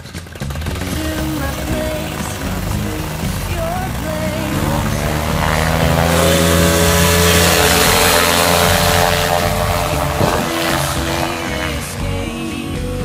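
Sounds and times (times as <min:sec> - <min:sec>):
paramotor engine revving: 0:00.0 - 0:13.0.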